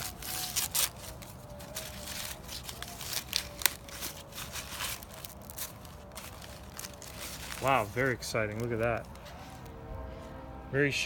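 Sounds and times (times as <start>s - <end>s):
corn husks being peeled by hand: 0.0s - 9.8s.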